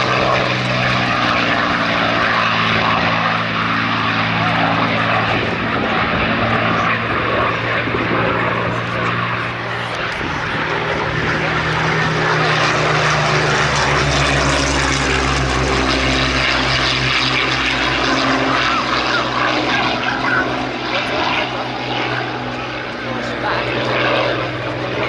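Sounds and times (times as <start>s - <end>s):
propeller aircraft flying past: 0.0s - 25.0s.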